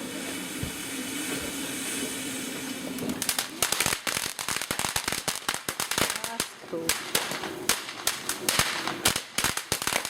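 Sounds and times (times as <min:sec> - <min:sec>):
firework crackling pops: 0:00.0 - 0:10.0.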